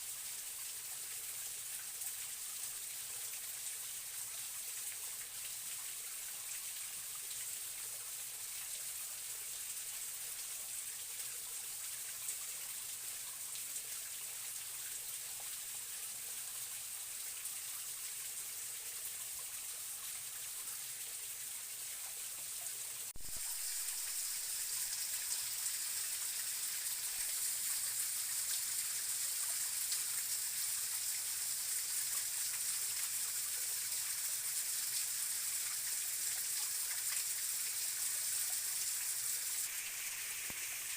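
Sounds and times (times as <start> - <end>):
forest stream flowing: 0.0 - 40.9.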